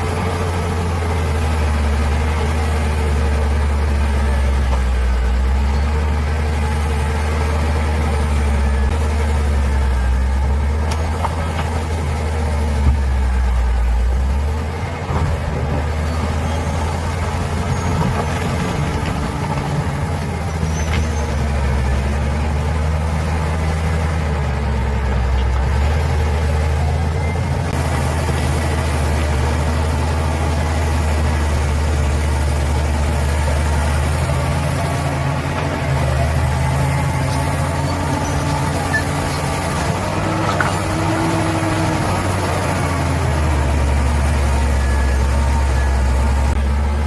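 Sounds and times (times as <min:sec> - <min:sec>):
bulldozer diesel engine droning: 0:00.0 - 0:47.0.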